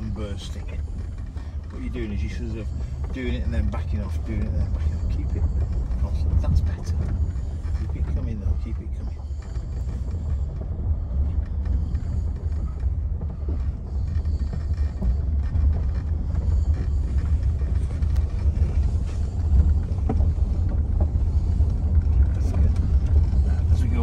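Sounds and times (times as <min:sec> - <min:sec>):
car cabin low rumble: 0:00.0 - 0:24.0.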